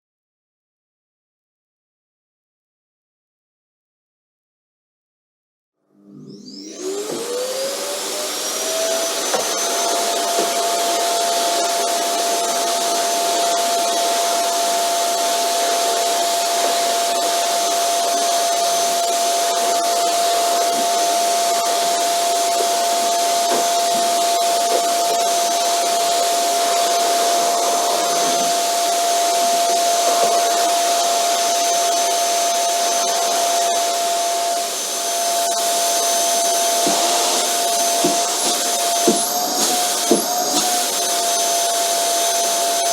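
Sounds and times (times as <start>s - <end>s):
vacuum cleaner running: 5.9s - 42.9s.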